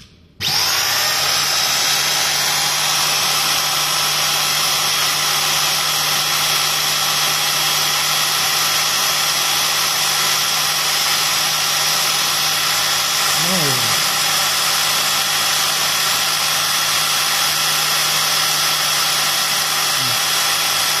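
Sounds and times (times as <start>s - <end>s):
electric motor whirring: 0.4s - 21.0s.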